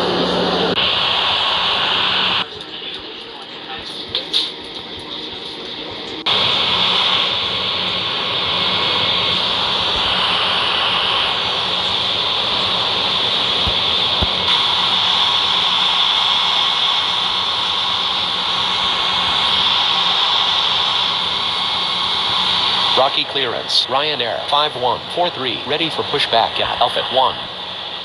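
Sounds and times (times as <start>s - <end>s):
faint hum: 0.0s - 28.0s
jet engines whining: 0.0s - 28.0s.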